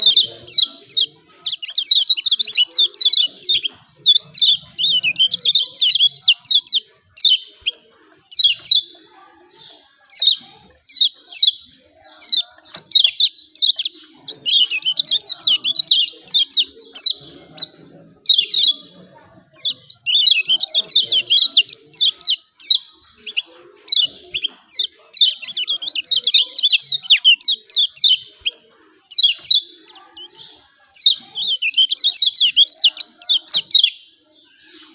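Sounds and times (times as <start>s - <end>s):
white-eye bird chattering calls: 0.0s - 34.0s.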